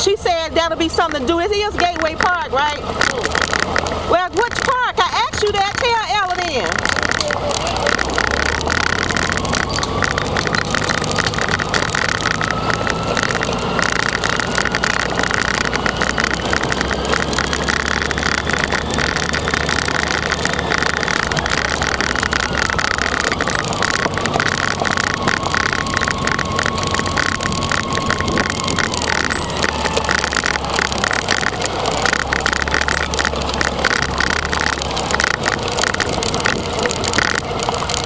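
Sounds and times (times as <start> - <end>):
faint whine: 0.0 - 38.0
motorcycle running: 0.0 - 38.0
wind buffeting microphone: 0.0 - 38.0.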